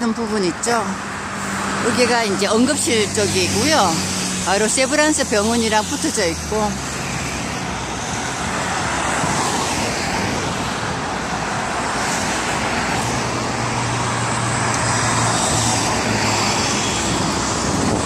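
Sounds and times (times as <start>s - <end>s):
road traffic: 0.0s - 18.0s
vehicle engine hum: 0.0s - 18.0s.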